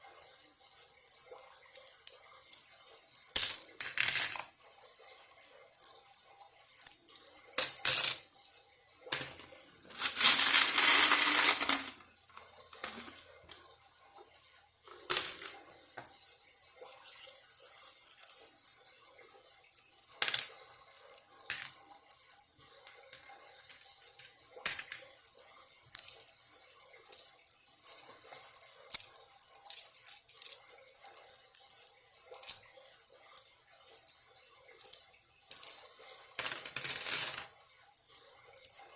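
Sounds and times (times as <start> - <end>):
coins clinking: 0.0 - 8.5, 9.1 - 12.1, 12.8 - 13.2, 14.9 - 18.9, 19.8 - 22.4, 24.6 - 37.5, 38.1 - 38.9.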